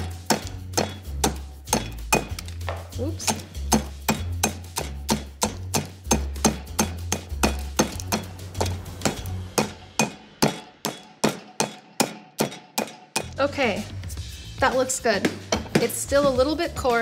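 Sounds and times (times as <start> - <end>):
stone pestle pounding in mortar: 0.0 - 13.6, 14.8 - 16.7.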